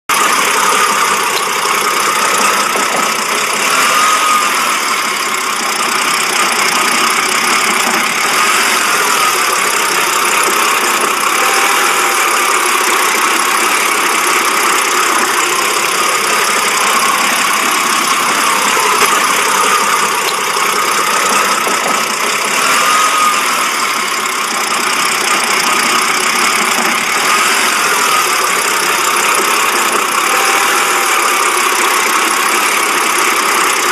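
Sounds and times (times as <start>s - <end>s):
car engine idling roughly: 0.0s - 33.9s.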